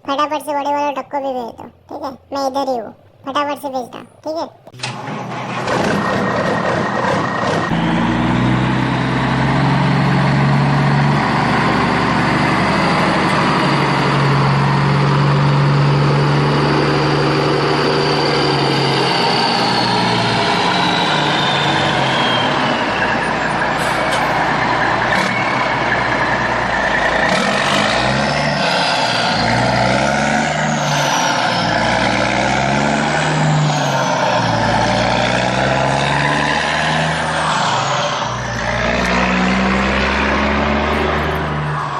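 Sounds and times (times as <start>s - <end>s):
heavy truck engine revving: 4.7s - 41.9s.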